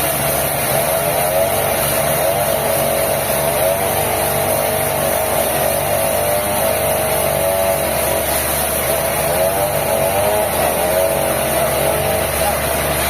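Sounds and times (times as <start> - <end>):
sawmill machinery running: 0.0 - 13.0
wavering saw whine: 0.0 - 13.0.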